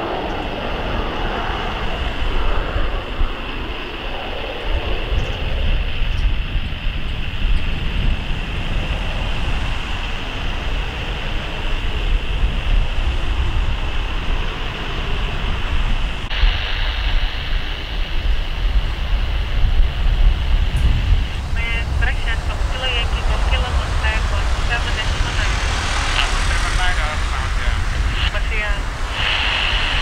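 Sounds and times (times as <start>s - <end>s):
jet engine roar with whine: 0.0s - 30.0s
jet engines on runway: 0.0s - 30.0s
wind rumble on microphone: 0.0s - 30.0s.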